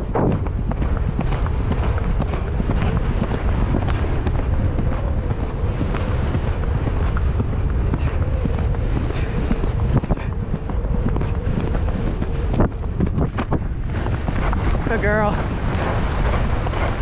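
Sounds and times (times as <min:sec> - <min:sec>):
horse hoofbeats galloping on turf: 0:00.0 - 0:17.0
wind buffeting microphone: 0:00.0 - 0:17.0.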